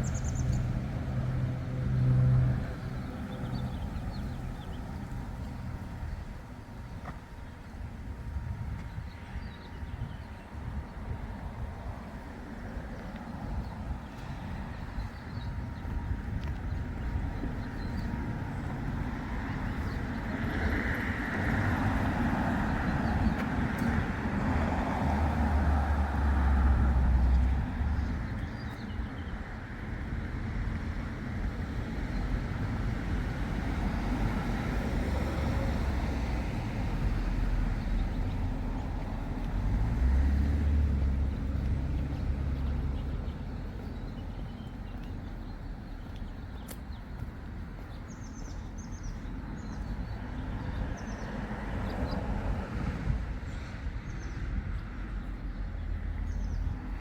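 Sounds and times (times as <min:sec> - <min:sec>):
cars passing by: 0:00.0 - 0:57.0.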